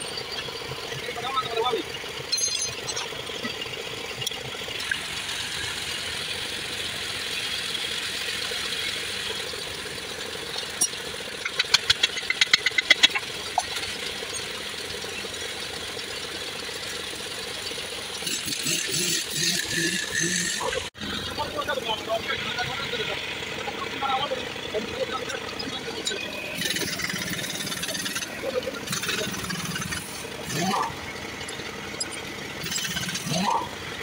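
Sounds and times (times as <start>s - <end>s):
steady engine-like hum: 0.0s - 34.0s.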